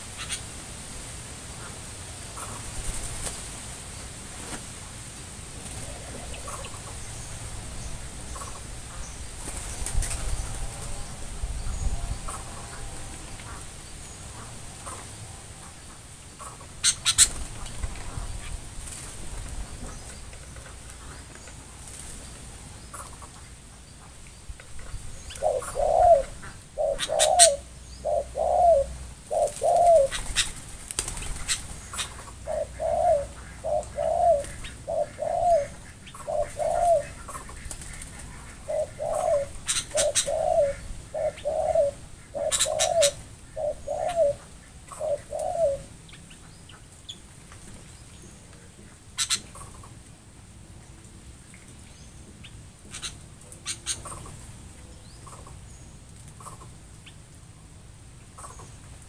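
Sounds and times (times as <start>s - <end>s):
small birds chirping: 5.6s - 50.0s, 50.7s - 59.0s.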